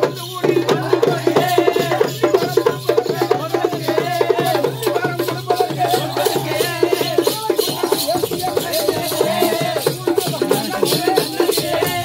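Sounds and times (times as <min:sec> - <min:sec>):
fast dense drumming: 0:00.0 - 0:12.0.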